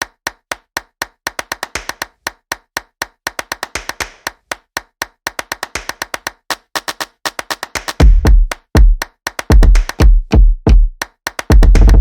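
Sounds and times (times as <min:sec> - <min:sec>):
clap-like percussion beat: 0:00.0 - 0:12.0.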